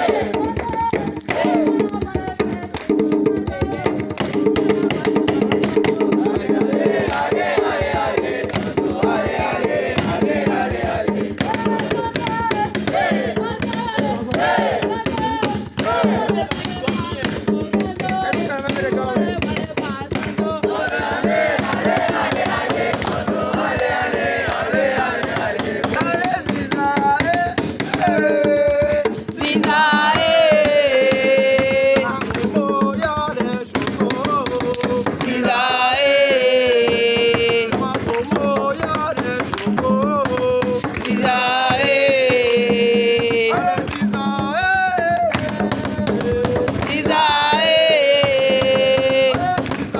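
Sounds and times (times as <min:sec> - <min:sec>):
fast hand percussion: 0:00.0 - 0:49.9
group of voices singing: 0:00.0 - 0:49.9.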